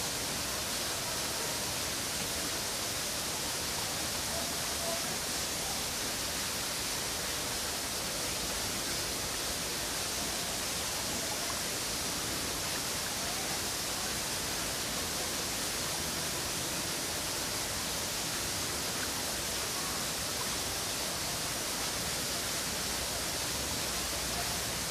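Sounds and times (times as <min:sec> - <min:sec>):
steady high hiss: 0:00.0 - 0:24.9.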